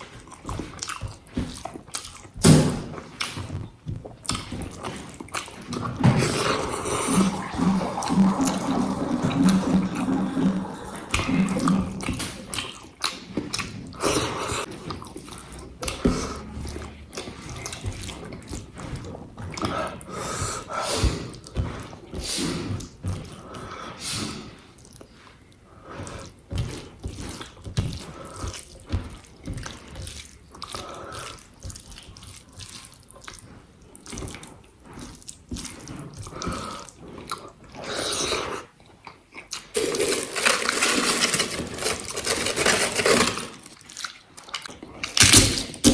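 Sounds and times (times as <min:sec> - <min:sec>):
wet chewing and lip smacking: 0:00.0 - 0:23.8, 0:24.5 - 0:39.8, 0:43.7 - 0:45.9.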